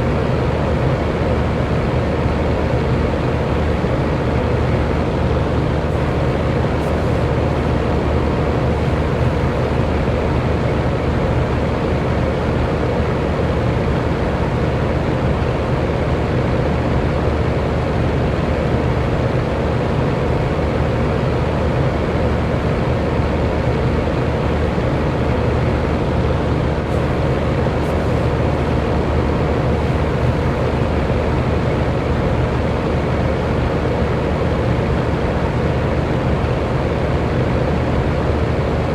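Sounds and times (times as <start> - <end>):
electric fan running: 0.0 - 38.9.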